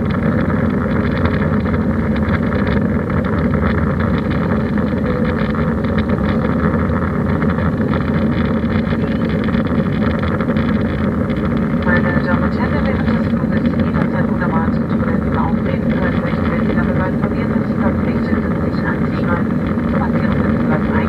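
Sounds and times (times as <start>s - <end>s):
airplane cabin engine rumble: 0.0s - 21.0s.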